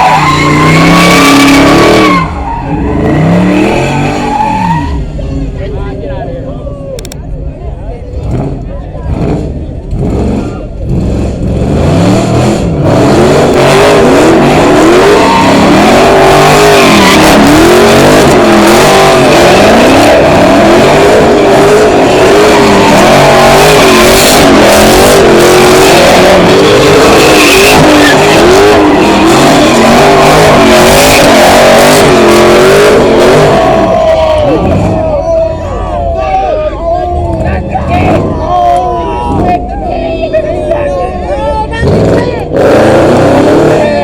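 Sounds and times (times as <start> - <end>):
tyres squealing: 0.0 - 5.6, 13.8 - 44.0
car engine revving: 0.0 - 36.4, 37.0 - 44.0.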